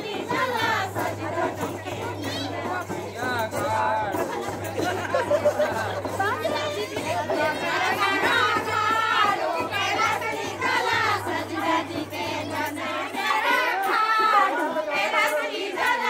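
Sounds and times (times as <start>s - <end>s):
women singing folk song: 0.0s - 3.2s, 4.8s - 16.0s.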